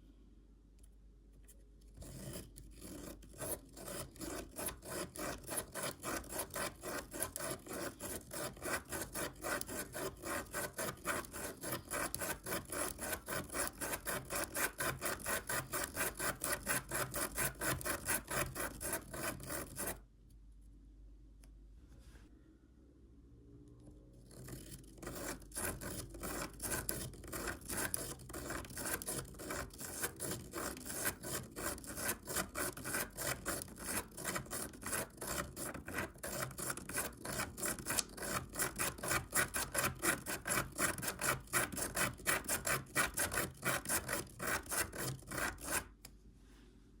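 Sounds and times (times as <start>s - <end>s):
pen scratching on paper: 2.0s - 20.0s, 24.3s - 45.9s.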